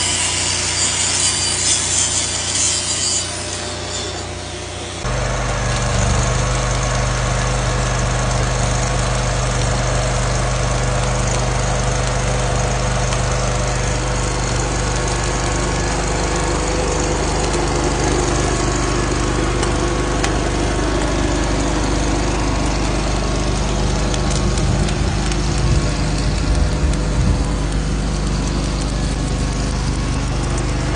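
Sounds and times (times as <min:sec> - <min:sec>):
engine humming: 0:04.3 - 0:30.9.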